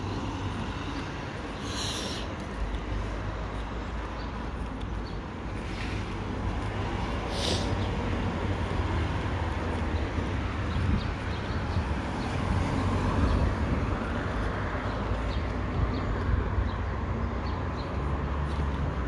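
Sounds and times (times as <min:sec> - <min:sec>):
rumble of passing traffic: 0:00.0 - 0:19.0.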